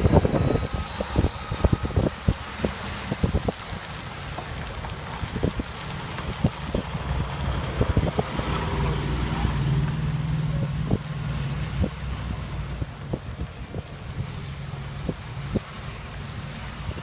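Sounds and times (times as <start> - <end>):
large vehicle engine humming: 0.0 - 17.0
wind buffeting microphone: 0.0 - 17.0.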